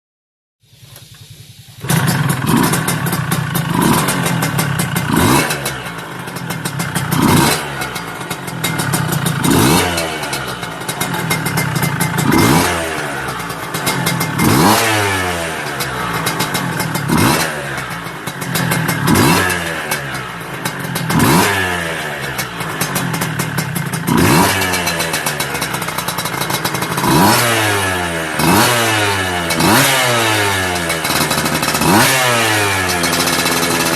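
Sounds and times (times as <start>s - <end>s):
two-stroke engine revving: 1.0s - 33.9s.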